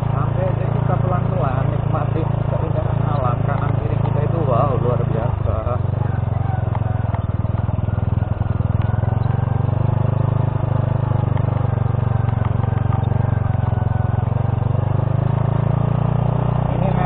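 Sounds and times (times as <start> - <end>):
motorbike engine running at low speed: 0.0 - 17.0.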